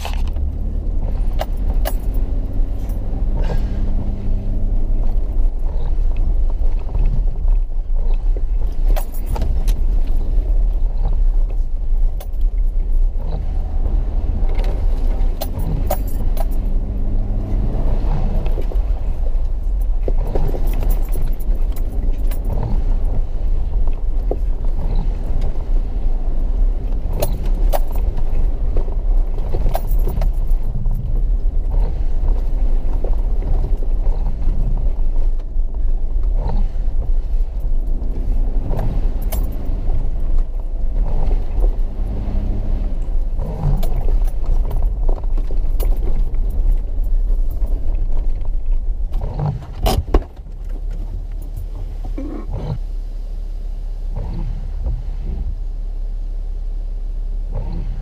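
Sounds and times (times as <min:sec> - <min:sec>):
body and suspension rattles: 0:00.0 - 0:52.9
vehicle engine running: 0:00.0 - 0:58.0.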